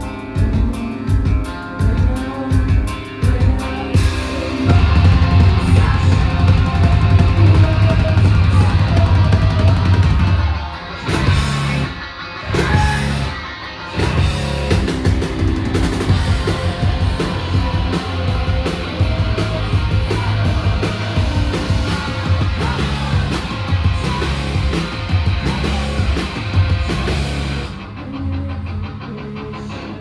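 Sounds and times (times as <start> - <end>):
driving drums: 0.0 - 27.9
bass line: 0.0 - 28.9
distorted electric guitar: 0.0 - 30.0.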